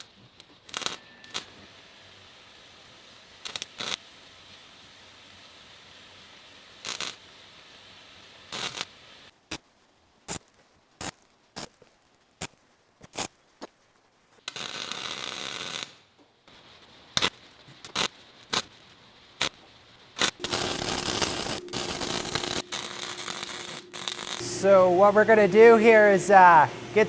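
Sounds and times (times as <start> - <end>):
welding crackle: 0.0 - 27.0
welding hiss: 0.0 - 27.0.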